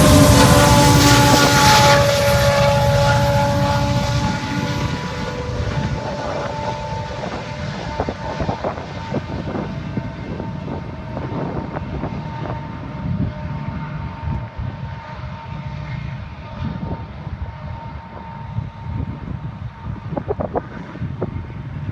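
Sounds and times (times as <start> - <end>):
freight train rumbling: 0.0 - 21.9
wind buffeting microphone: 0.0 - 21.9.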